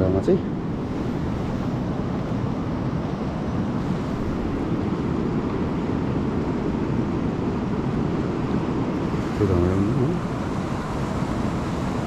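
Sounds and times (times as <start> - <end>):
fast river roaring: 0.0 - 12.0.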